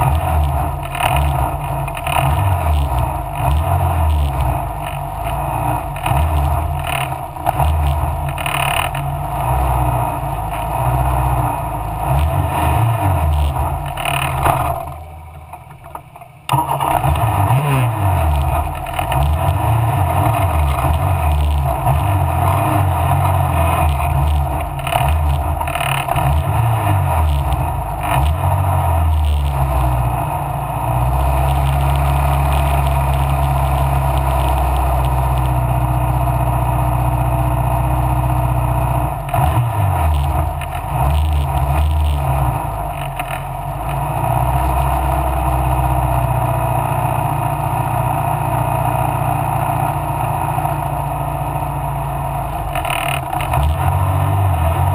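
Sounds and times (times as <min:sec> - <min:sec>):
racing car engine running hard: 0:00.0 - 0:54.9.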